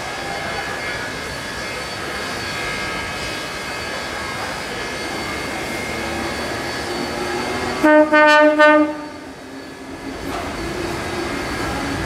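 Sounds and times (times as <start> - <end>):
electric train drone and whine: 0.0 - 12.0.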